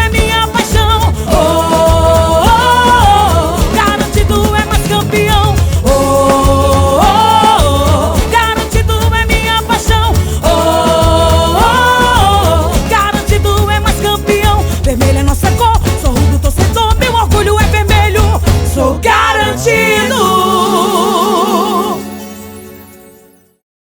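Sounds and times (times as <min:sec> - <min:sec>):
folk song with percussion and bass: 0:00.0 - 0:22.6.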